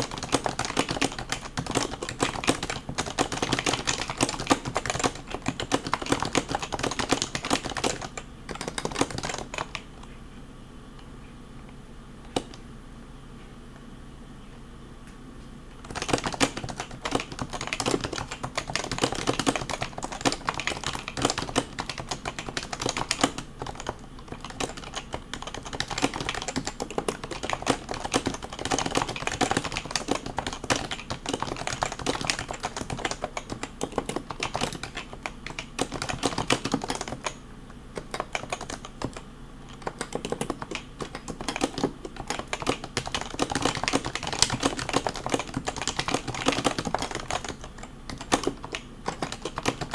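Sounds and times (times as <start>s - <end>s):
fast keyboard typing: 0.0s - 10.1s, 15.8s - 49.9s.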